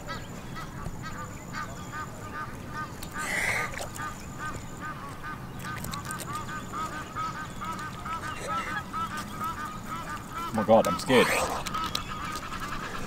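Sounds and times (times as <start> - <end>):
goose honking softly: 0.1 - 13.0.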